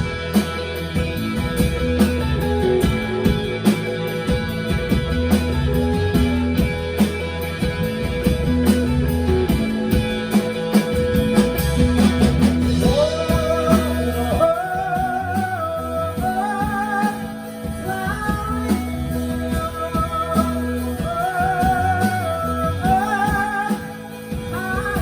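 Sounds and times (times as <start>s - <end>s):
rock band playing live: 0.0s - 25.0s.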